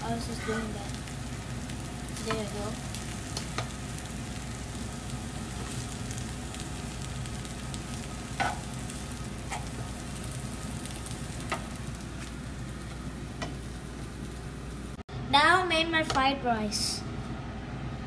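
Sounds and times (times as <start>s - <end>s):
rice sizzling in a frying pan: 0.0s - 15.0s.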